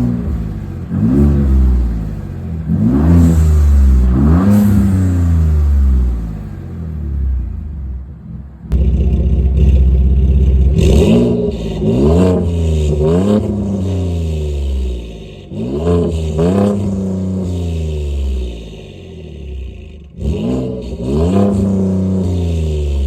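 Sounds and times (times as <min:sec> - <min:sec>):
engine revving in blips: 0:00.0 - 0:23.0.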